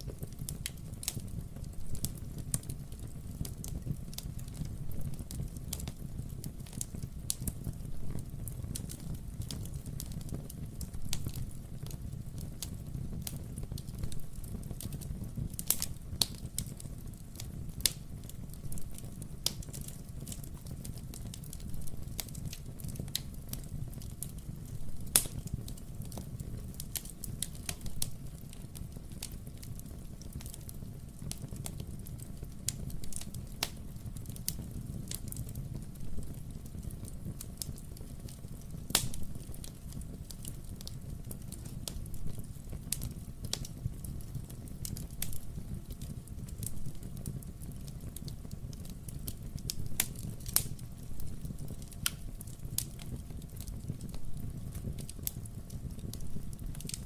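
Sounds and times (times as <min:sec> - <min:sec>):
burning logs popping: 0:00.0 - 0:57.0
low rumble of flame: 0:00.0 - 0:57.0
wood fire crackling: 0:00.0 - 0:57.0.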